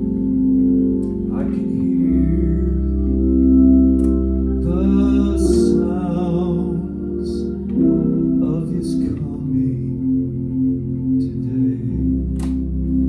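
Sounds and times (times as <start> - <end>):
hammond organ gospel chords: 0.0 - 13.0
steady bass: 0.0 - 13.0.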